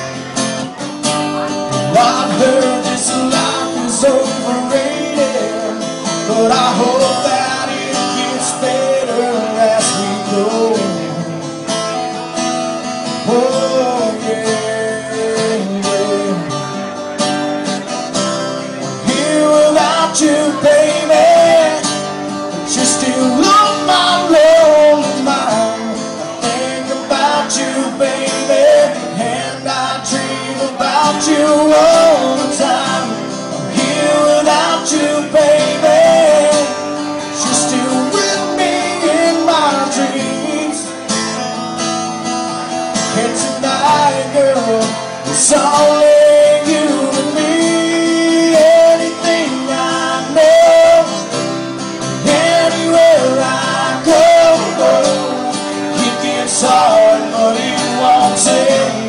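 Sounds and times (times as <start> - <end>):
country song on guitar: 0.0 - 59.0.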